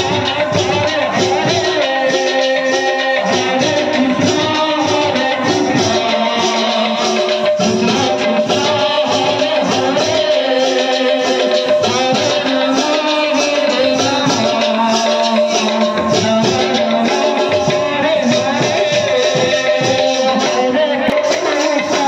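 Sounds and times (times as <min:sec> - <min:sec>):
barrel drum rhythm: 0:00.0 - 0:22.0
jingling percussion: 0:00.0 - 0:22.0
person singing: 0:00.0 - 0:22.0.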